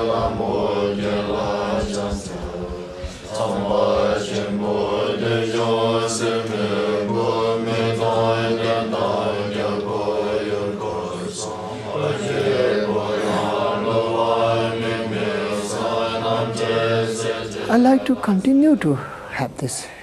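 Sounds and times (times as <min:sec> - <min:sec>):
group chanting prayers: 0:00.0 - 0:19.3.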